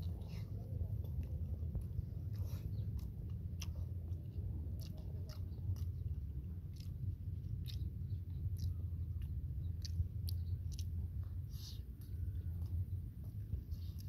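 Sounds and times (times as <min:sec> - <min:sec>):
person chewing: 0:00.0 - 0:14.0
steady low rumble: 0:00.0 - 0:14.0.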